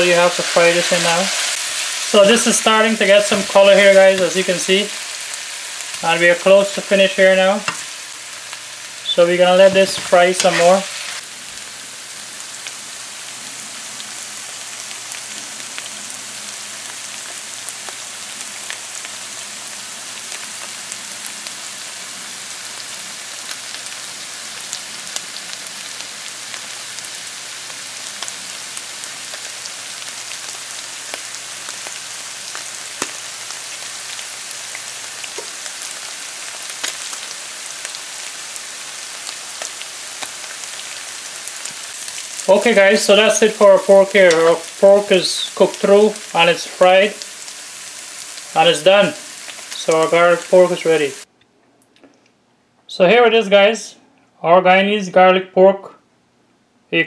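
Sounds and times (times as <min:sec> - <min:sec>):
meat sizzling in a frying pan: 0:00.0 - 0:51.3.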